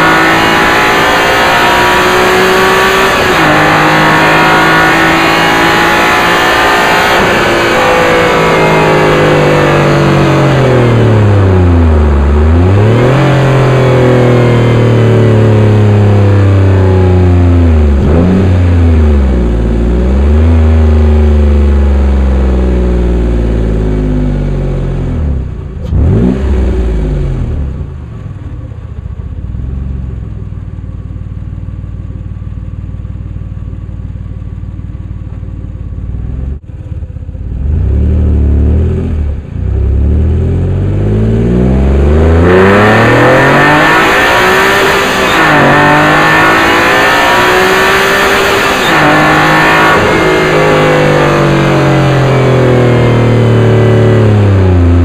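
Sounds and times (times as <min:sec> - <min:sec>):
car engine revving: 0:00.0 - 0:30.1, 0:35.8 - 0:55.0.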